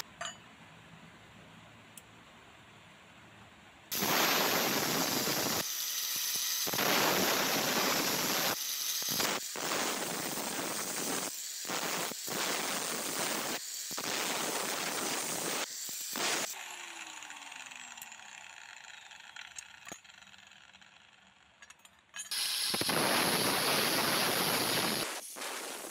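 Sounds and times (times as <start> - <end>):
angle grinder cutting steel: 3.9 - 25.9.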